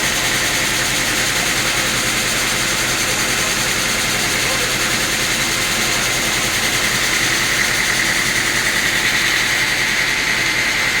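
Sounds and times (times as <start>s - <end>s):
sawmill machinery whining: 0.0s - 11.0s.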